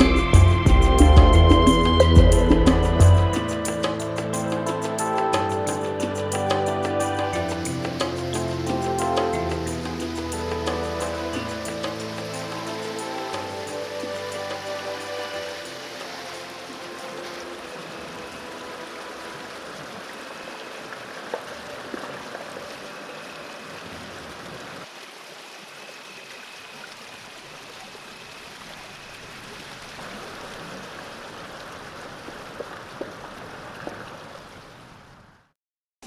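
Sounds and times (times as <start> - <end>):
waterfall and stream rushing: 0.0 - 35.3.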